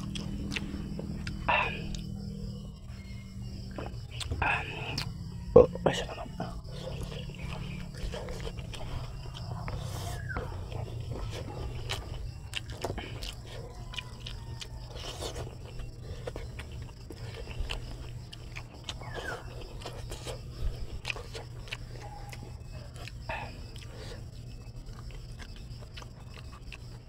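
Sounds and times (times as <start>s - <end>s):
chewing and mouth smacks: 0.0s - 27.0s
steady low hum: 0.0s - 27.0s.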